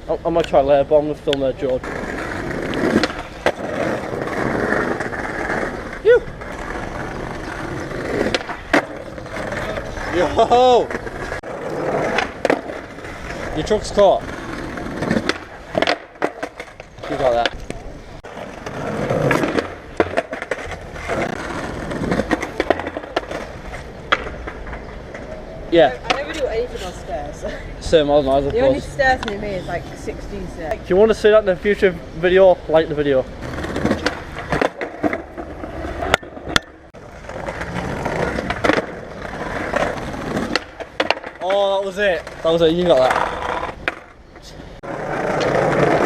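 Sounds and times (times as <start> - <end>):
skateboard wheels rolling: 0.2 - 46.0
skateboard clacks: 1.3 - 26.5, 33.4 - 46.0.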